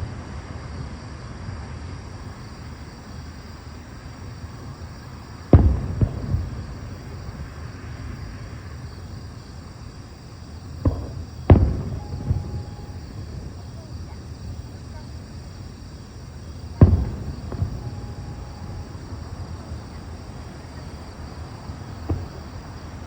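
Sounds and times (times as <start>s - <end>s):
low background rumble: 2.0s - 23.0s
firework booms: 2.1s - 23.0s.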